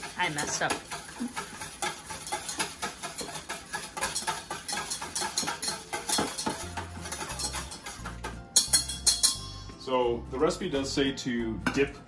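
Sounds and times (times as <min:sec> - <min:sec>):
whisk clinking in metal bowl: 0:00.0 - 0:09.7.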